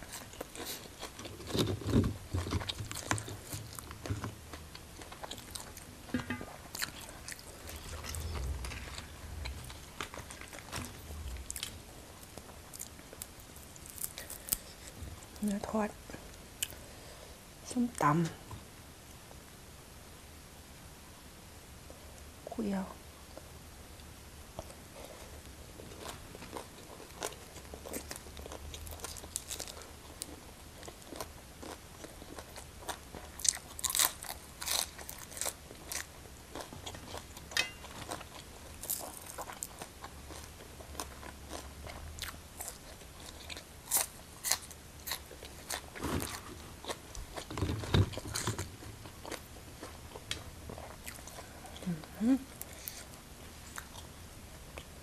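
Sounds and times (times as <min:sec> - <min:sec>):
person chewing crunchy food: 0:00.0 - 0:15.5, 0:24.6 - 0:54.1.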